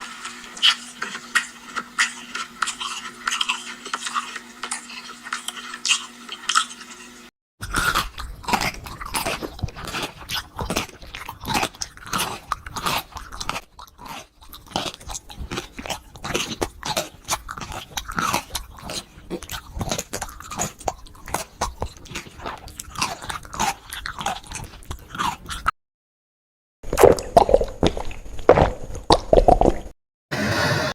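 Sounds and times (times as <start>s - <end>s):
person chewing meat: 0.0s - 25.7s, 26.9s - 29.9s.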